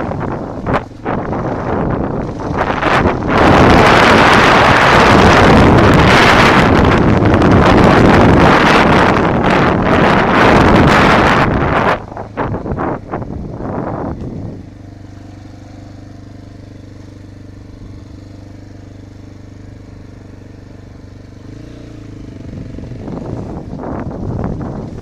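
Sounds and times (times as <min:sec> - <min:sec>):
motorcycle engine revving and idling: 0:00.0 - 0:25.0.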